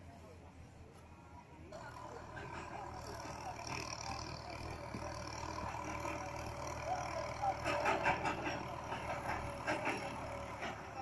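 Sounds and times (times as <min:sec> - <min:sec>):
people talking: 0:00.0 - 0:11.0
tractor engine running: 0:01.7 - 0:11.0.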